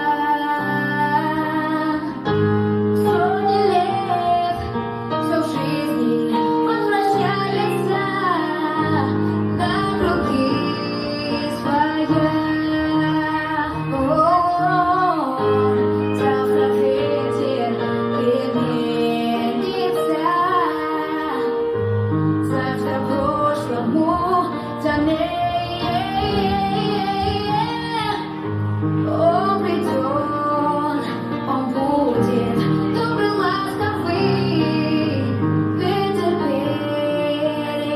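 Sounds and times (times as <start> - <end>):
instrumental backing music: 0.0 - 37.9
woman singing: 0.0 - 37.9.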